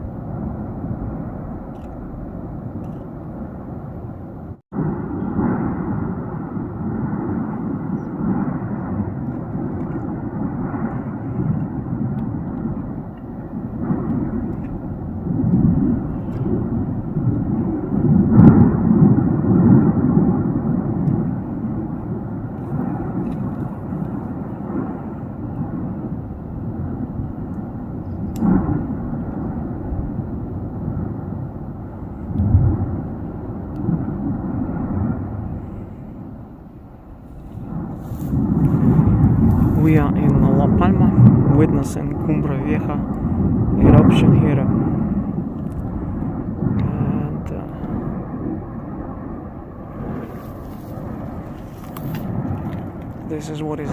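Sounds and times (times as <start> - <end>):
explosion cracks: 0.0 - 53.9
volcano deep rumble: 0.0 - 53.9.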